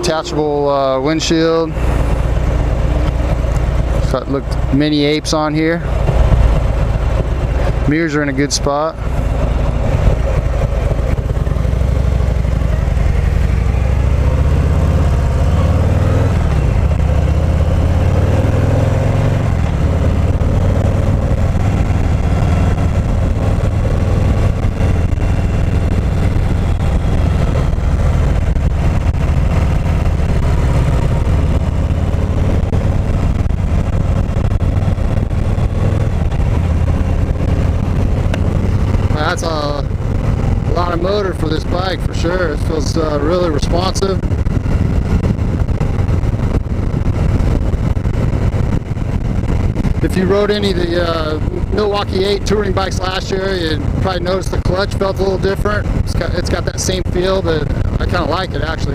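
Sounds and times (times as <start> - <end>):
motorcycle engine rumbling: 0.0 - 58.9.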